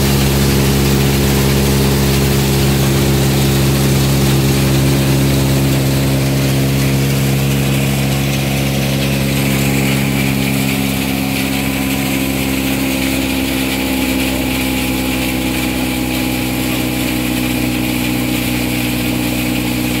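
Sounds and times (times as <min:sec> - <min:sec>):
grain thresher engine hum: 0:00.0 - 0:20.0.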